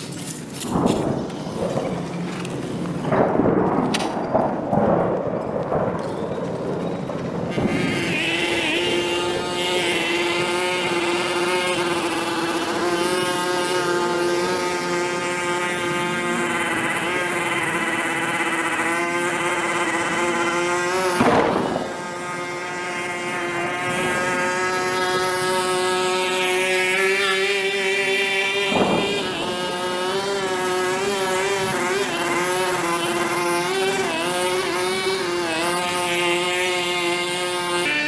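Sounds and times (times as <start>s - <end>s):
motor humming: 7.2s - 38.0s.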